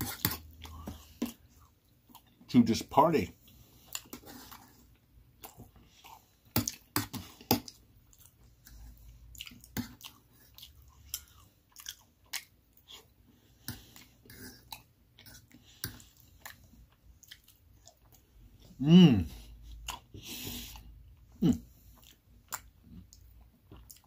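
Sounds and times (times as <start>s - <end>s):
close chewing: 0.0s - 2.5s, 3.4s - 18.8s, 19.4s - 24.0s.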